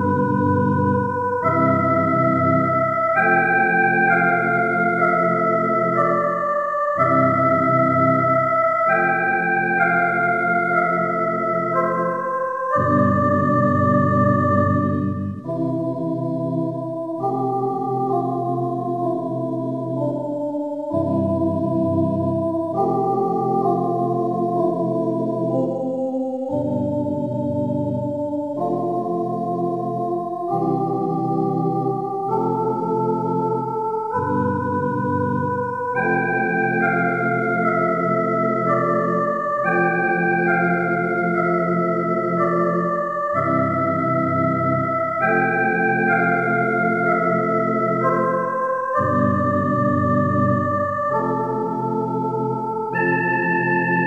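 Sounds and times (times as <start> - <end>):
organ playing slow chords: 0.0 - 54.0.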